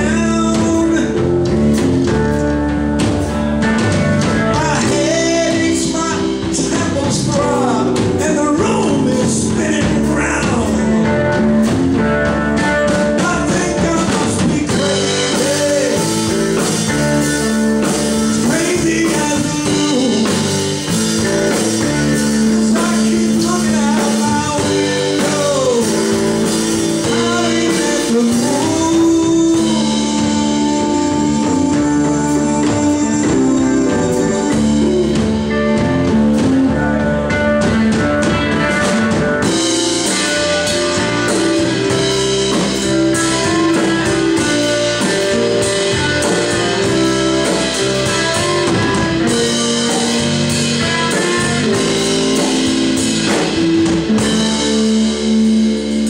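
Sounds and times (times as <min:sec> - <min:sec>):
bass: 0:00.0 - 0:56.0
drums: 0:00.0 - 0:56.0
electric guitar: 0:00.0 - 0:56.0
keyboard: 0:00.0 - 0:56.0.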